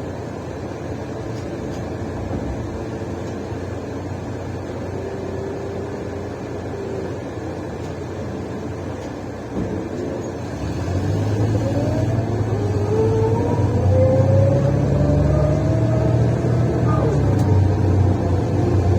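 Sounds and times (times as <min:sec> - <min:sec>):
bus engine running: 0:00.0 - 0:18.9
road noise: 0:00.0 - 0:18.9.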